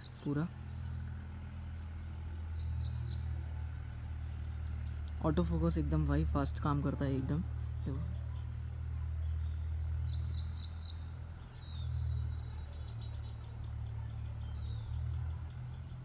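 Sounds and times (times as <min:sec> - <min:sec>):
low outdoor rumble: 0:00.0 - 0:16.0
small bird chirping: 0:00.0 - 0:16.0.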